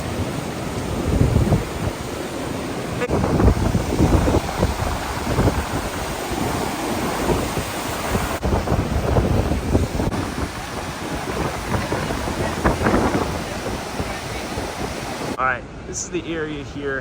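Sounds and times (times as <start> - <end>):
rushing water: 0.0 - 17.0
wind gusting on microphone: 0.0 - 17.0.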